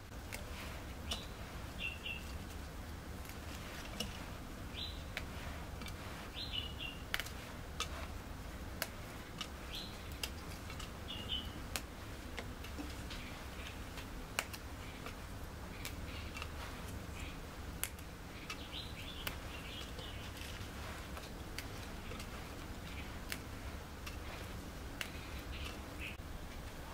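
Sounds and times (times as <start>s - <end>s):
birds chirping: 0.0s - 26.2s
steady low hum: 0.0s - 26.9s.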